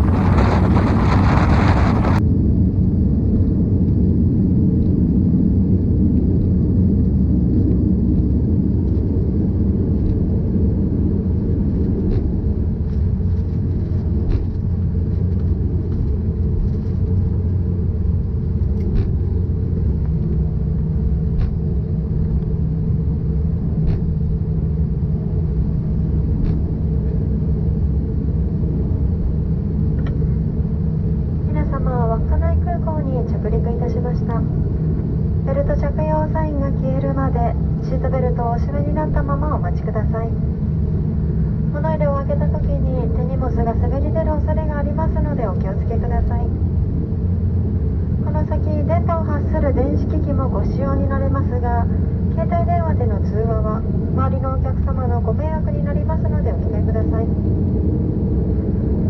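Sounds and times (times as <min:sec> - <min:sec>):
steady engine hum: 0:00.0 - 0:02.3, 0:06.4 - 0:59.0
airliner rolling on runway: 0:00.0 - 0:59.0
wind noise rush: 0:00.0 - 0:59.0.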